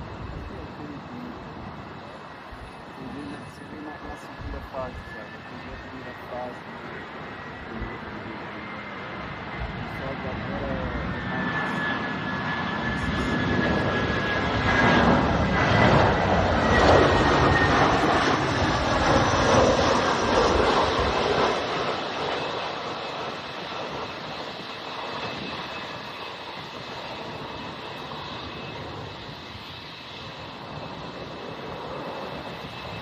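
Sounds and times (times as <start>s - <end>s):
high jet whine: 0.0s - 33.0s
jet engines rushing: 0.0s - 33.0s.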